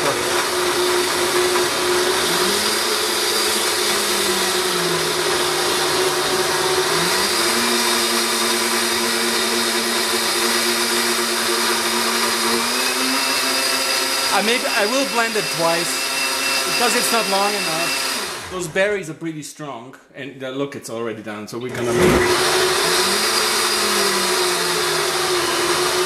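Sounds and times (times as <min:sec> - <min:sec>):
blender running: 0:00.0 - 0:18.8, 0:21.7 - 0:26.0.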